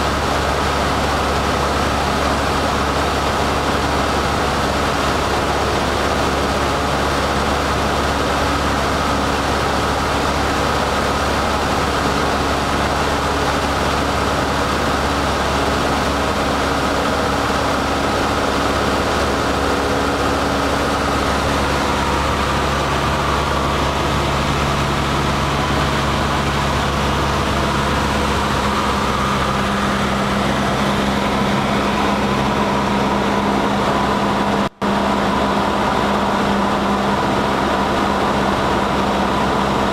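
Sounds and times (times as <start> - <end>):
propeller plane engine droning: 0.0 - 39.9
rushing air: 0.0 - 39.9.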